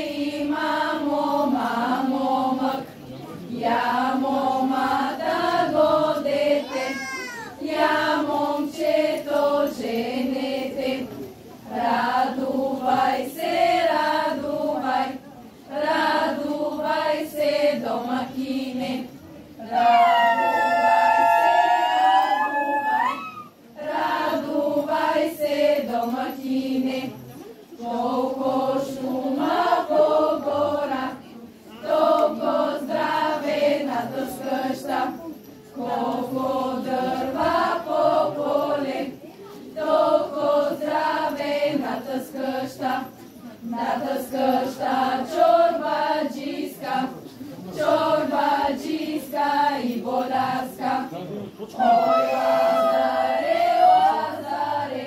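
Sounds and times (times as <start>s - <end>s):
women and girls singing in unison: 0.0s - 51.2s, 51.8s - 55.0s.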